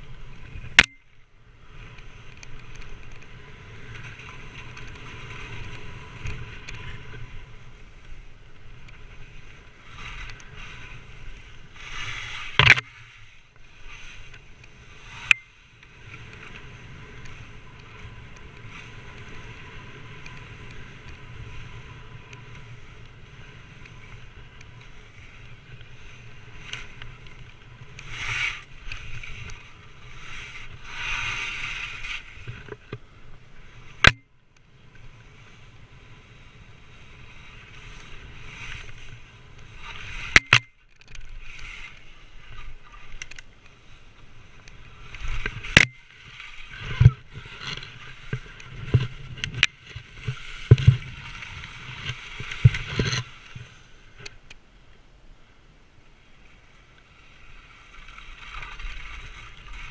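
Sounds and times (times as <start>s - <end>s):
skis sliding over snow: 0.0s - 0.8s, 1.4s - 54.5s, 55.4s - 59.9s.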